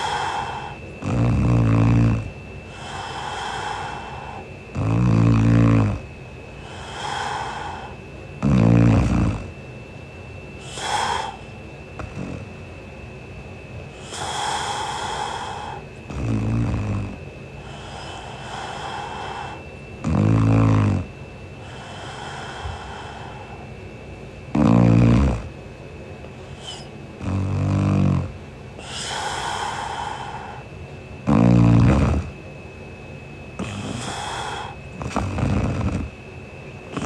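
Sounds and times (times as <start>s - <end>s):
woman snoring: 0.0s - 9.6s, 10.6s - 12.6s, 13.9s - 23.7s, 24.5s - 25.6s, 26.4s - 32.4s, 33.6s - 36.2s
soft hissing breath: 0.0s - 13.0s, 13.7s - 37.0s.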